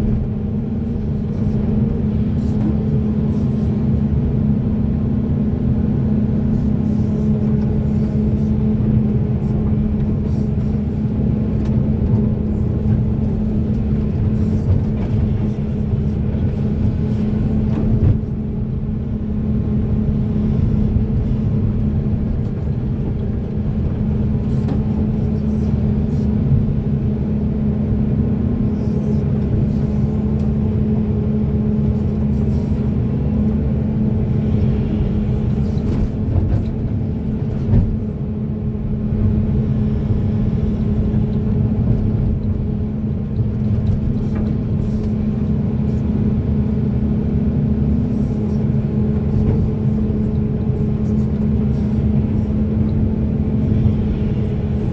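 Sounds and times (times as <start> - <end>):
excavator diesel engine rumbling: 0.0 - 54.9.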